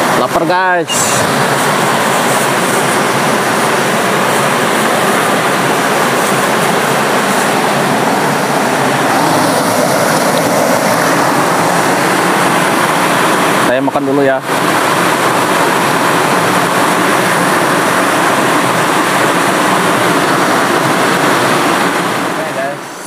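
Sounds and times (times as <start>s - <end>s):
waterfall rushing into pool: 0.0s - 23.0s.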